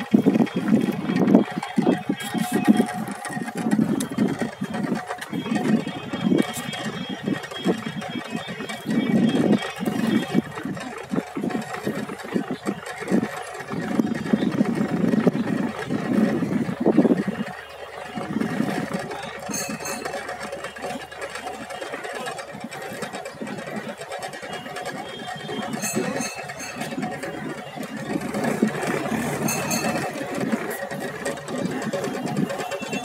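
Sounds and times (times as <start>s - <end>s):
boat engine running: 0.0s - 33.0s
high ticking rattles: 0.0s - 33.0s.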